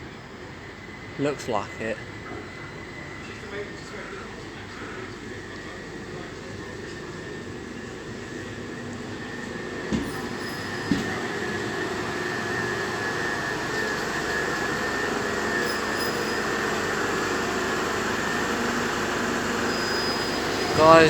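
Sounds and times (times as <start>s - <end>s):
electric train arriving: 0.0s - 21.0s
steady high whine: 0.2s - 21.0s.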